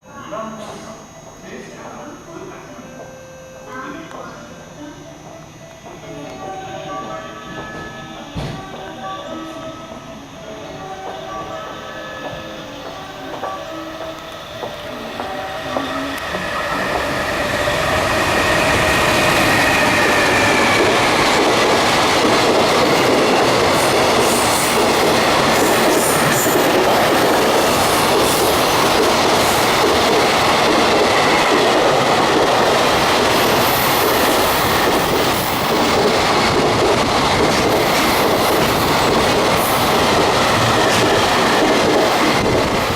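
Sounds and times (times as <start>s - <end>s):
high locomotive whine: 0.0s - 42.9s
freight train passing: 4.2s - 42.9s.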